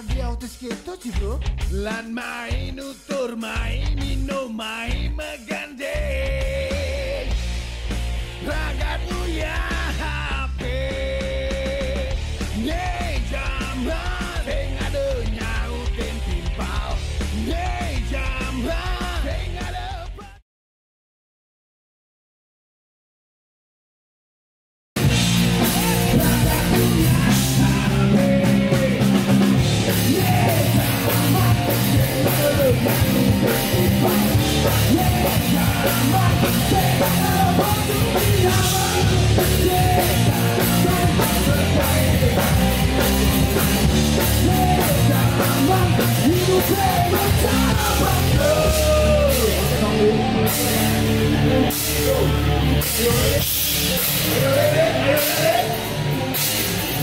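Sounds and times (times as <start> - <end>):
punk rock band music: 0.0 - 20.4, 25.0 - 57.0.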